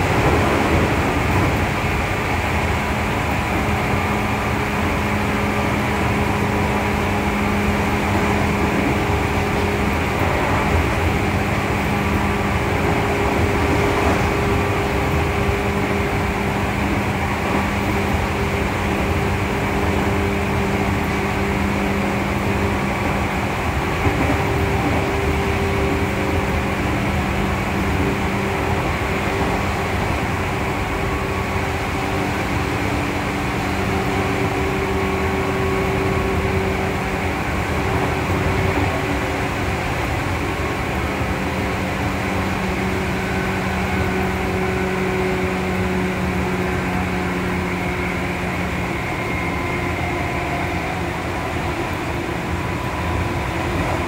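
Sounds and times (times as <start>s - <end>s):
steady motor hum: 0.0s - 54.0s
train wheels rumbling on rail: 0.0s - 54.0s.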